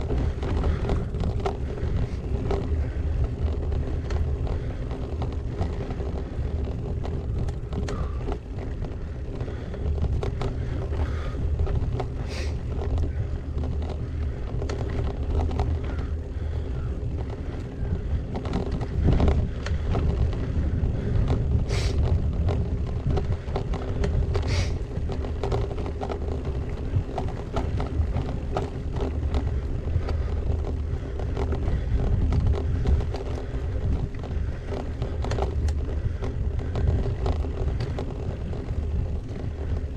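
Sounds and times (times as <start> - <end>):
bike rattling: 0.0 - 39.9
tyres rumbling on gravel: 0.0 - 39.9
wind buffeting microphone: 0.0 - 39.9.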